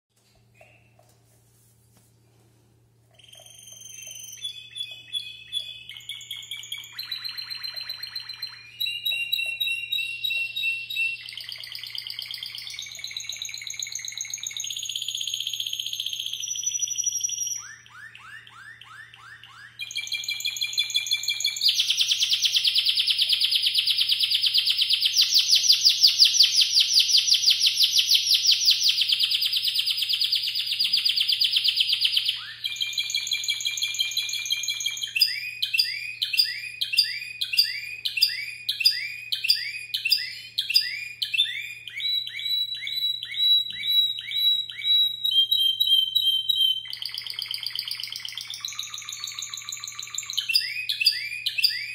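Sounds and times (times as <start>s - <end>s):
canary singing: 3.1s - 51.9s.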